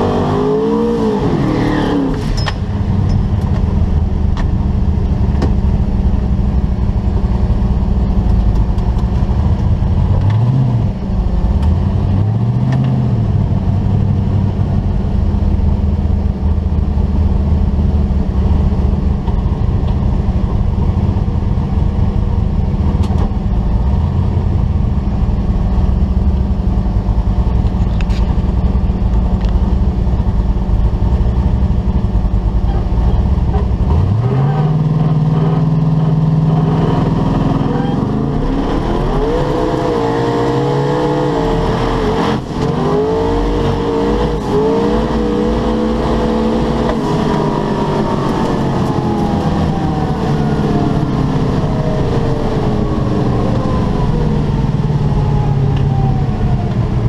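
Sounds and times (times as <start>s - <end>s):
drag car engine revving: 0.0s - 57.0s.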